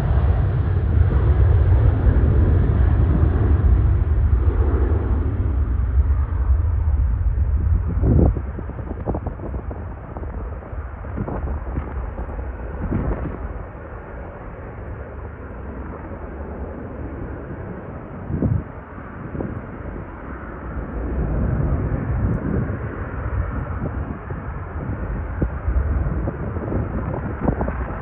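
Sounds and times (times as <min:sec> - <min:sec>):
jet engine roar: 0:00.0 - 0:28.0.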